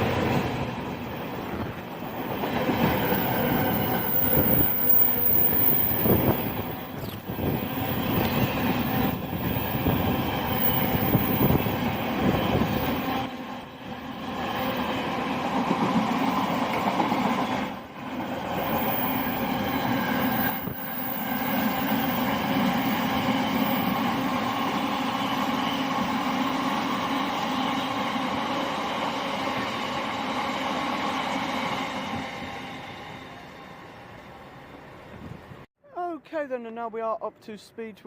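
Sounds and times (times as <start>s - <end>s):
freight train rumble: 0.0s - 35.7s.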